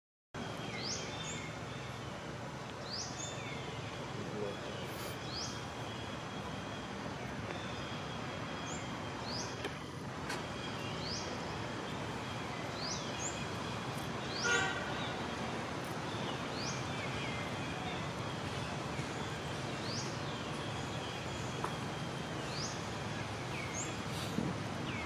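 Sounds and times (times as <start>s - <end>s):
background hiss: 0.4s - 25.0s.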